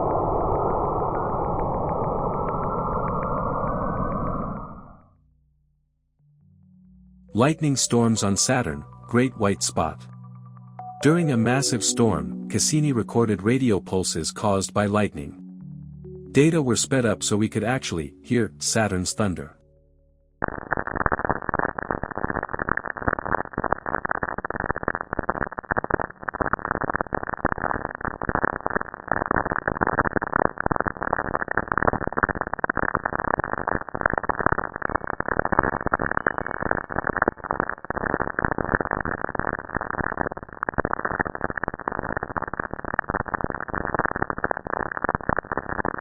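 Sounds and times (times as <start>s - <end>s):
crackle of radio static: 0.0s - 5.1s, 7.4s - 10.1s, 10.8s - 15.4s, 16.4s - 19.6s, 20.4s - 46.0s.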